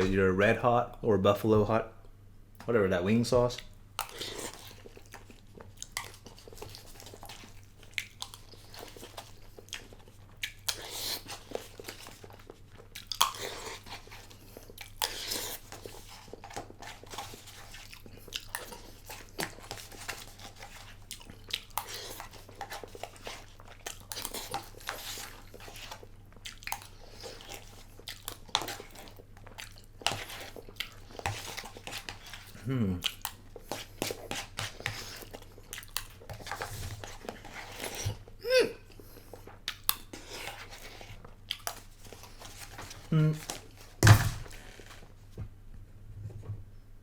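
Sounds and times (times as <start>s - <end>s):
person chewing food: 3.6s - 45.1s.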